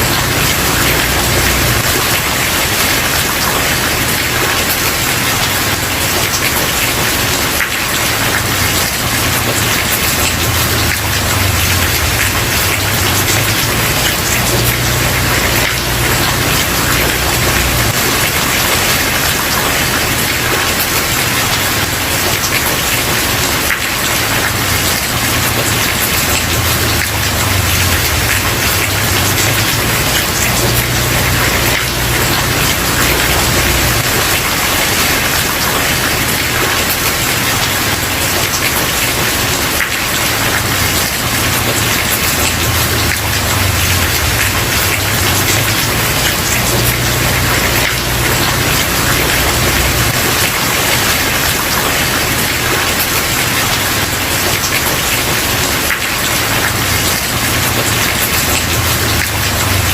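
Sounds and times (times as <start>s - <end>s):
heavy rain on wooden porch: 0.0s - 59.9s.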